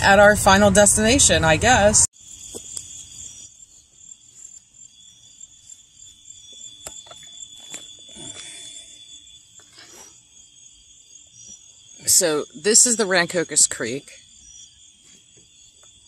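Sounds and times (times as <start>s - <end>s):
crickets and insects chirring: 0.0s - 16.0s.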